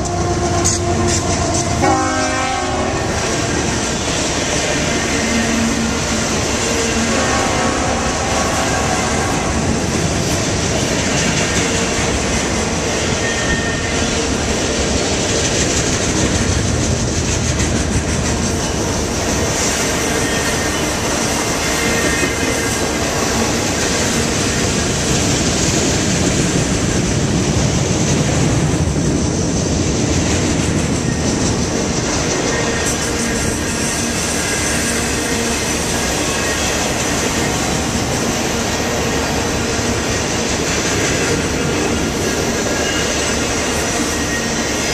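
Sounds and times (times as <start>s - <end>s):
freight train wheels rattling: 0.0s - 44.9s.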